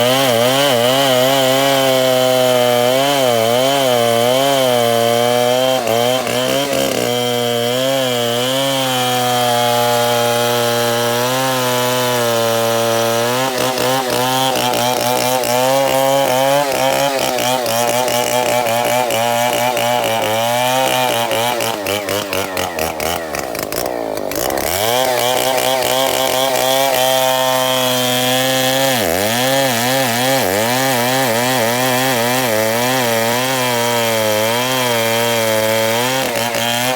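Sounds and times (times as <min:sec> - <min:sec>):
chainsaw cutting into tree: 0:00.0 - 0:36.9.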